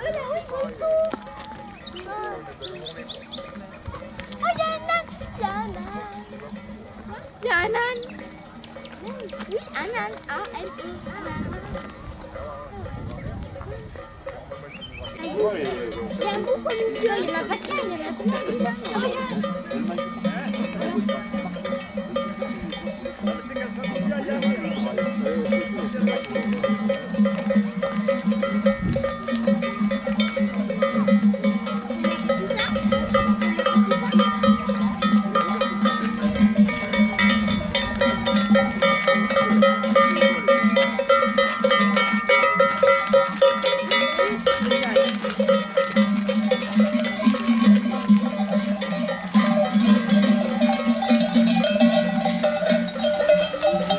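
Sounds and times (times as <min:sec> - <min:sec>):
livestock bells clanking: 0:00.0 - 0:53.9.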